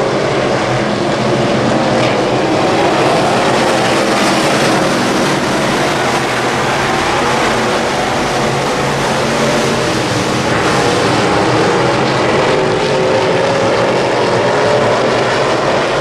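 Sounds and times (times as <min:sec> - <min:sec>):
race car engines roaring: 0:00.0 - 0:16.0.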